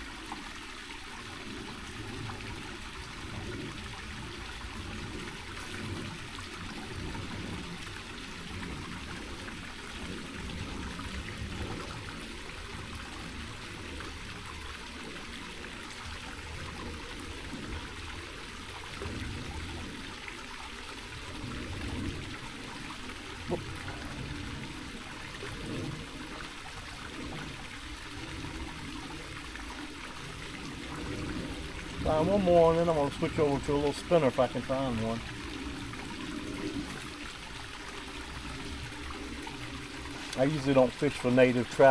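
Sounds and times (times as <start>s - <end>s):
creek running over rocks: 0.0s - 41.9s.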